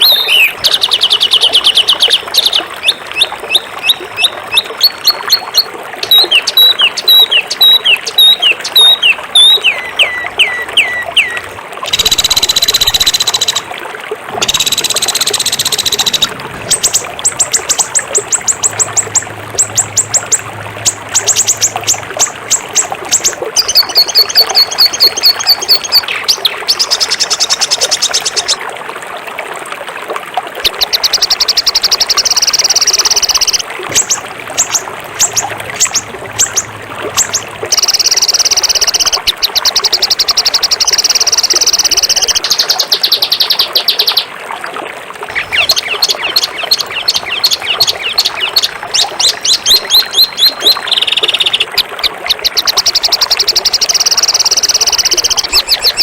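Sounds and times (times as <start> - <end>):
songbird rapid trills: 0.0 - 13.7, 14.4 - 28.6, 30.7 - 44.3, 45.3 - 56.0.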